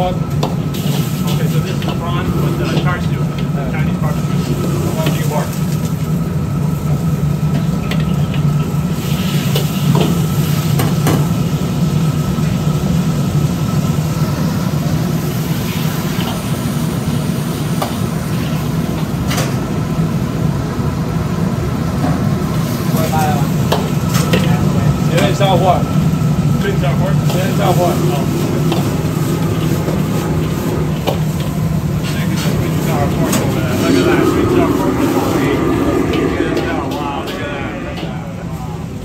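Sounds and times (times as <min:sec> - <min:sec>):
gas burners and exhaust hood roar: 0:00.0 - 0:39.0.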